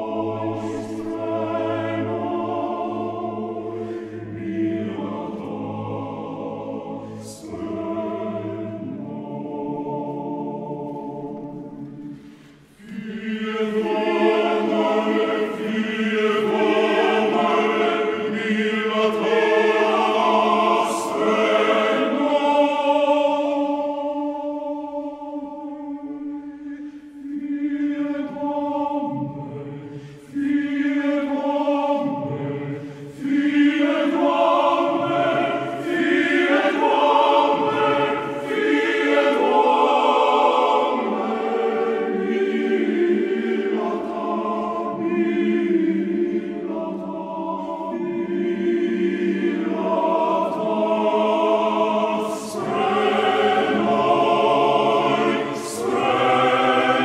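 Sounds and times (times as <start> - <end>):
male choir singing: 0.0 - 57.0.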